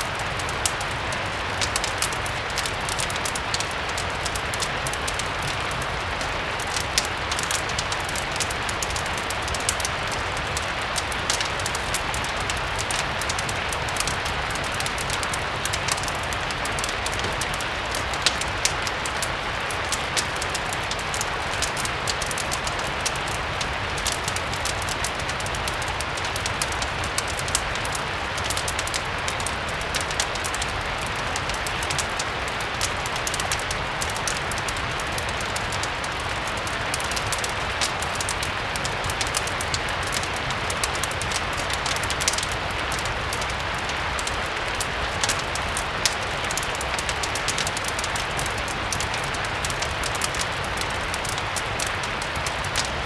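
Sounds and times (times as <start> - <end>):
steady rain hiss: 0.0 - 53.0
wood fire crackling: 0.0 - 53.0.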